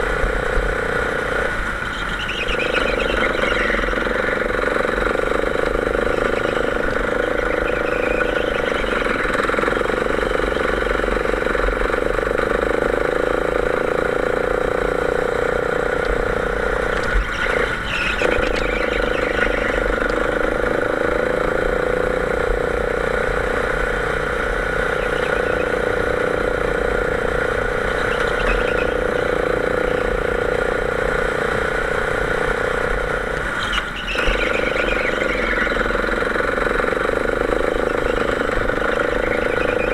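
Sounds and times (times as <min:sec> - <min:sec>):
go-kart engine at high revs: 0:00.0 - 0:39.9.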